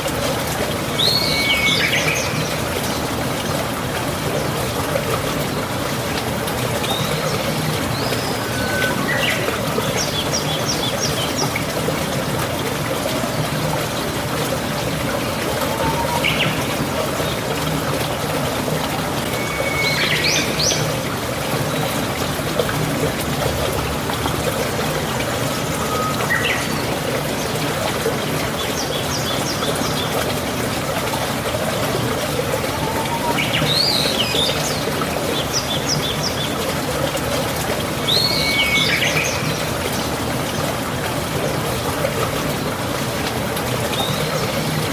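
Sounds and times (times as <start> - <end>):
flowing water rushing: 0.0 - 44.9.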